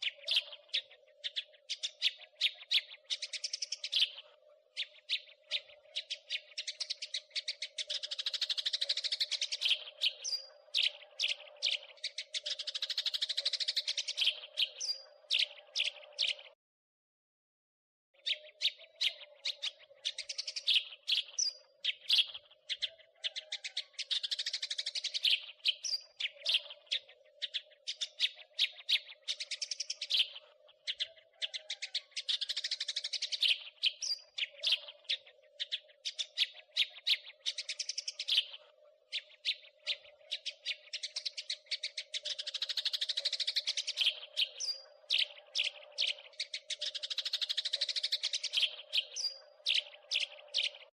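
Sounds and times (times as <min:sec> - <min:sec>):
sparrow chirping: 0:00.0 - 0:16.6, 0:18.2 - 0:50.9.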